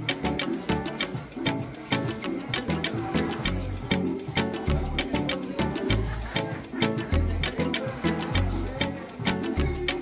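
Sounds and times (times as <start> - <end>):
dance music with bass line: 0.0 - 10.0.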